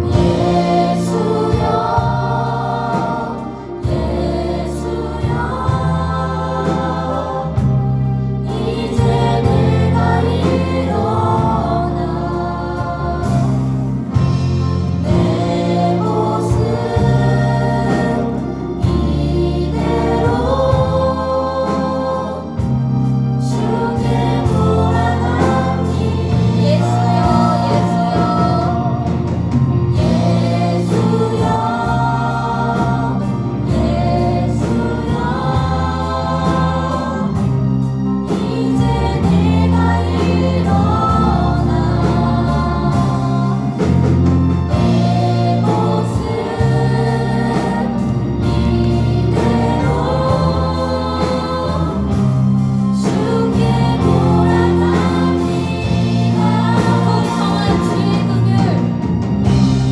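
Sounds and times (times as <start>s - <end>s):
band accompaniment with bass: 0.0s - 59.9s
group singing a worship song: 0.0s - 59.9s.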